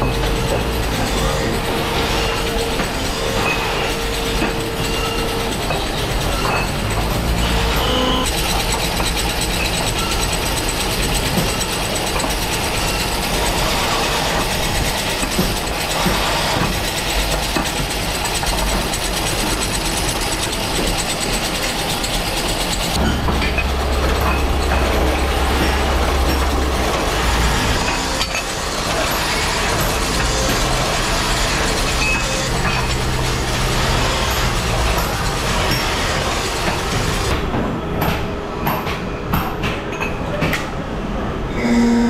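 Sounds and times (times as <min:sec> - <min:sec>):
drill press humming: 0:00.0 - 0:37.3, 0:41.5 - 0:42.0
drilling machine whirring: 0:00.0 - 0:37.4, 0:41.5 - 0:42.0
metal parts rattling: 0:00.0 - 0:37.4.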